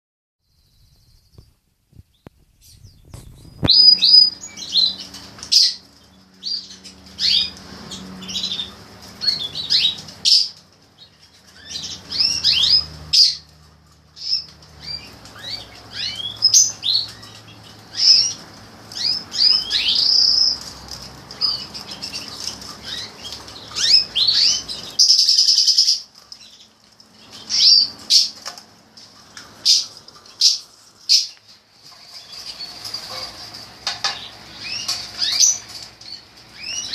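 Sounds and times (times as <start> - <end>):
canaries chirping: 0.7 - 36.9.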